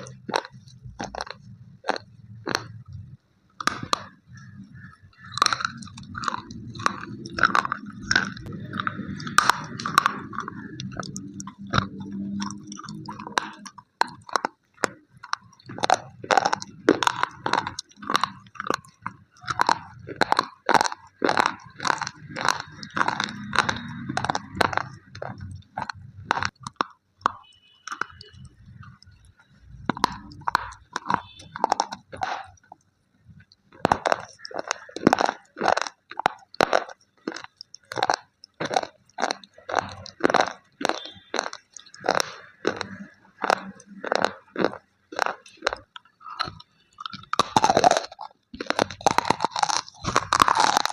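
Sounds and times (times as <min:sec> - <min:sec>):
crunchy chewing cracks: 0:00.0 - 0:50.9.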